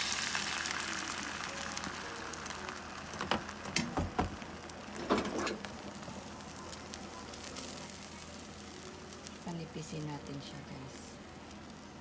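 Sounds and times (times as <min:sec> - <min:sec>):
egg sizzling in a pan: 0:00.0 - 0:12.0.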